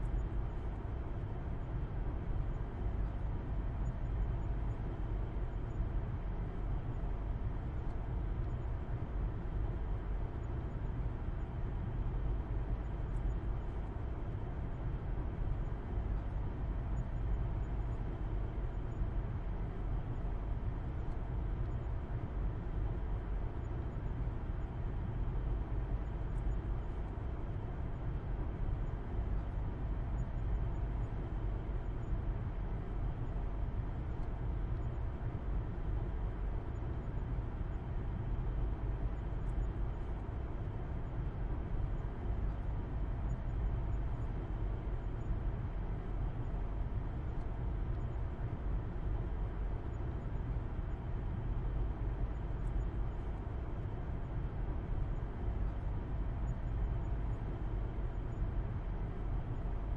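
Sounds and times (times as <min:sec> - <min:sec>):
road noise inside car: 0:00.0 - 0:59.9.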